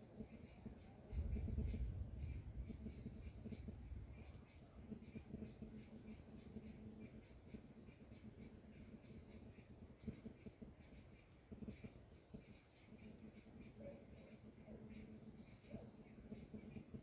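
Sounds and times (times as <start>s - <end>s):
insect trilling: 0.0s - 17.0s
quiet forest ambience: 0.0s - 17.0s.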